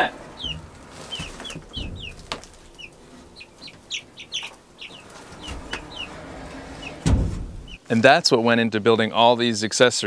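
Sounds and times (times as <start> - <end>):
chicks peeping: 0.0 - 8.1.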